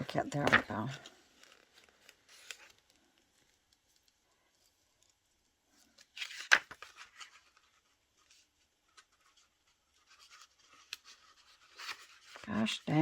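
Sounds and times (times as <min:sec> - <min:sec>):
paper scratching and rustling: 0:00.0 - 0:05.2, 0:06.0 - 0:13.0.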